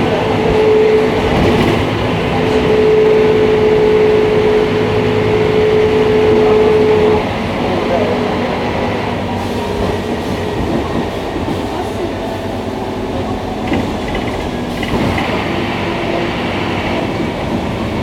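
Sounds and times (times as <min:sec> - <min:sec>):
bus engine hum: 0:00.0 - 0:18.0.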